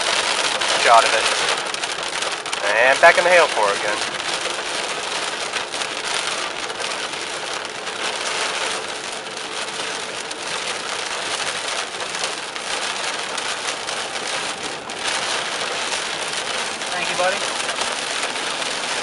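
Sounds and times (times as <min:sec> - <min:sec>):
heavy rain on car roof: 0:00.0 - 0:19.0.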